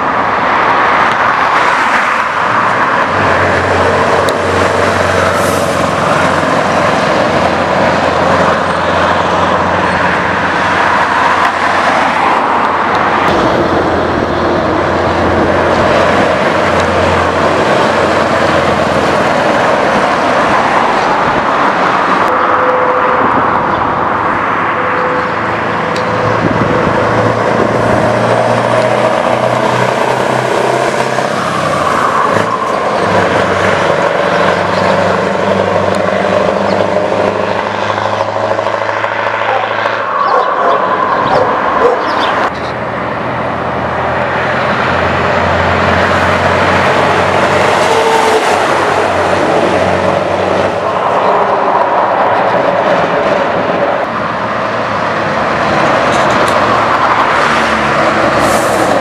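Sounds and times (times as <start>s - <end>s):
diesel truck engine under load: 0.0s - 59.0s.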